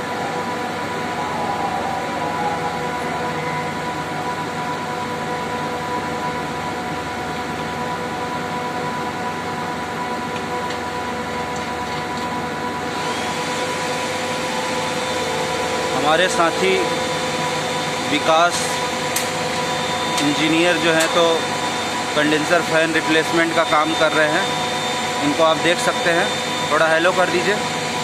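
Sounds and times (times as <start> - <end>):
chiller machinery drone: 0.0 - 28.0.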